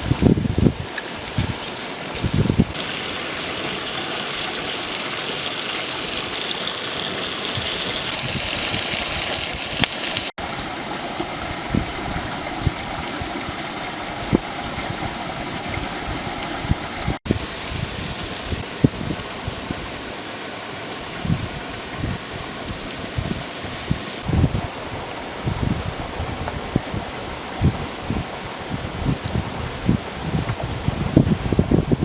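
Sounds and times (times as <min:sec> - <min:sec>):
wind thumping on microphone: 0:00.0 - 0:02.8, 0:07.5 - 0:20.1, 0:21.1 - 0:32.0
flowing stream: 0:00.0 - 0:32.0.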